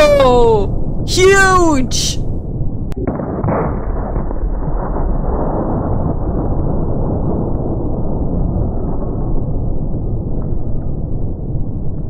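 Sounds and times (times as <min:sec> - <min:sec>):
gun blast deep rumble slowed down: 0:02.2 - 0:12.0.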